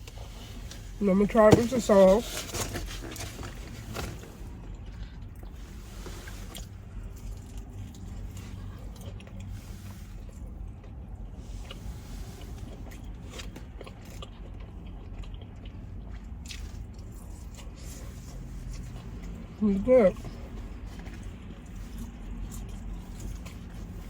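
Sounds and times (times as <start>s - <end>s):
wet chewing mouth sounds: 4.5s - 24.0s.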